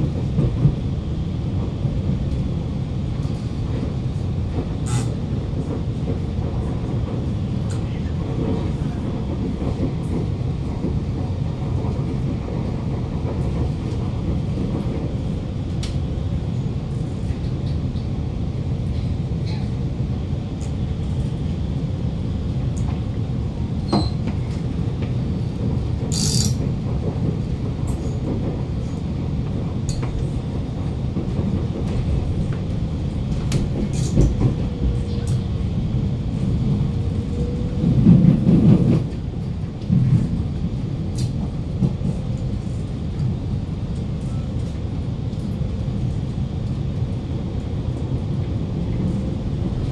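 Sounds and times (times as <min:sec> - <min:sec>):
metro train rumble: 0:00.0 - 0:49.9.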